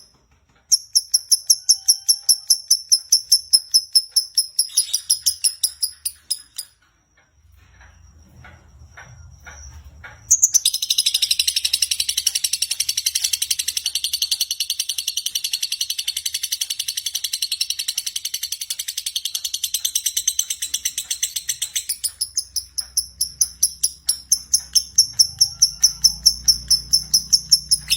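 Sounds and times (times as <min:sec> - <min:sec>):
lovebird chattering trill: 0:00.7 - 0:06.7, 0:10.3 - 0:27.9
lovebird high chirps: 0:00.7 - 0:06.7, 0:10.3 - 0:27.9.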